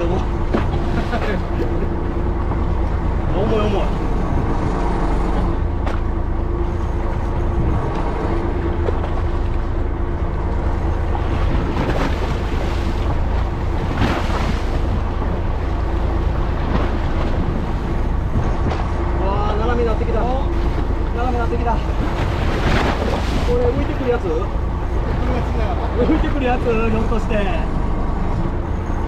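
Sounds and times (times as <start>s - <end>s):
boat engine running: 0.0s - 29.0s
sea washing against hull: 0.0s - 29.0s.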